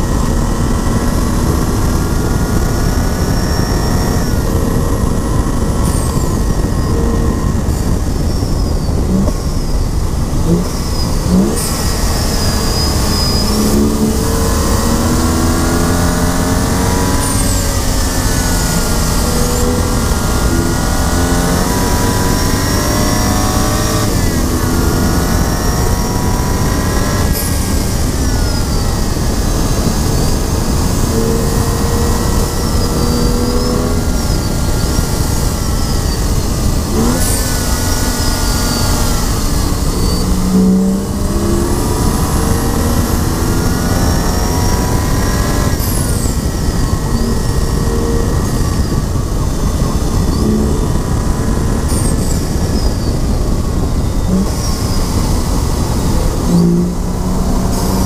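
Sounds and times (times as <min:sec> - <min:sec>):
car engine accelerating: 0:00.0 - 0:58.0
high whistling tones: 0:00.0 - 0:58.0
wind and road noise: 0:00.0 - 0:58.0.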